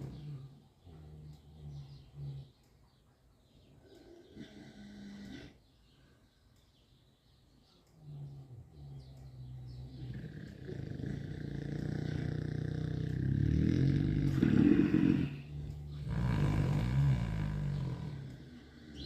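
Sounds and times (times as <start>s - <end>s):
pigs snoring: 0.0s - 2.6s, 3.8s - 5.6s, 8.0s - 19.0s.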